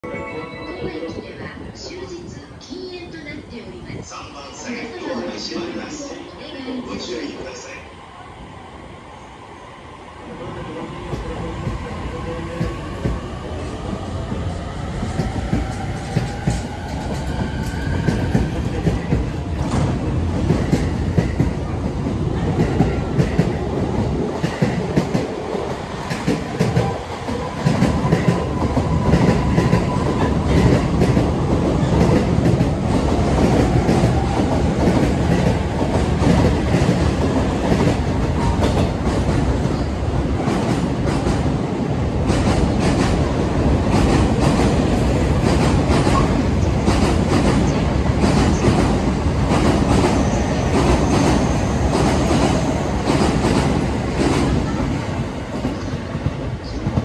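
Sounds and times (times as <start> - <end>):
trains wheel and rail noise: 0.0 - 57.0.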